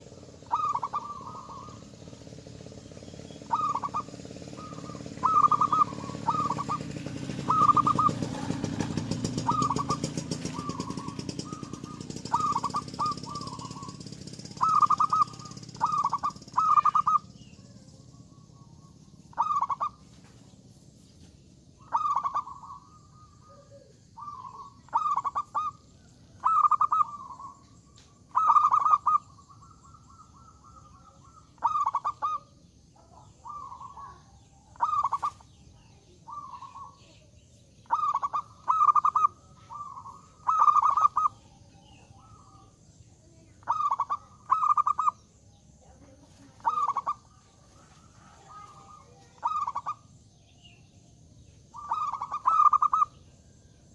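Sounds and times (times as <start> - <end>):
dove cooing: 0.0 - 20.4, 21.8 - 53.9.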